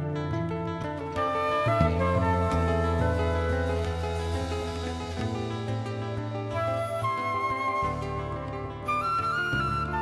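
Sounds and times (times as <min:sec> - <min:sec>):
instrumental melody: 0:00.0 - 0:10.0.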